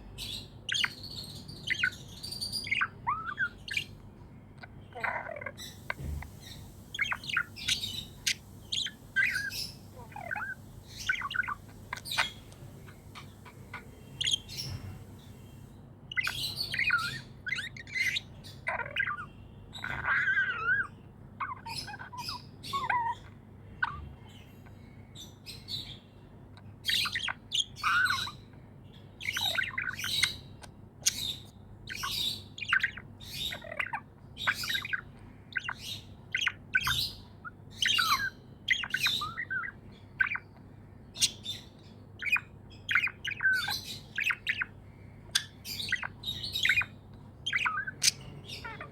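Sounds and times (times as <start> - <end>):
budgerigars chirping: 0.2 - 24.5, 26.6 - 48.9.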